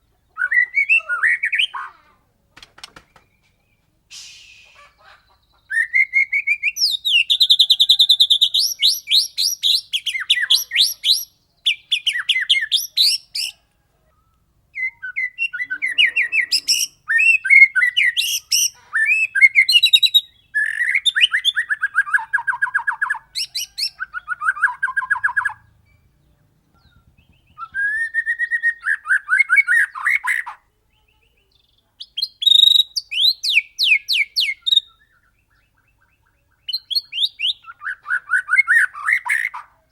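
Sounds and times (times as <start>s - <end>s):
bird singing rapid notes: 2.8s - 13.6s, 14.3s - 39.6s.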